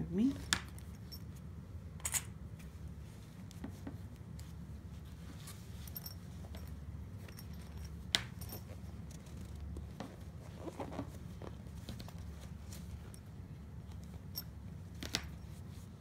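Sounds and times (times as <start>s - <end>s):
steady low hum: 0.0s - 16.0s
fabric rustling: 2.5s - 16.0s.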